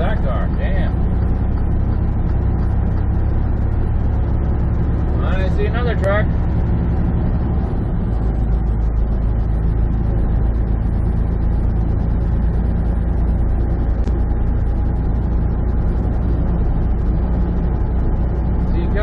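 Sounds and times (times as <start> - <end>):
road noise: 0.0 - 19.0
truck engine droning: 0.0 - 19.0.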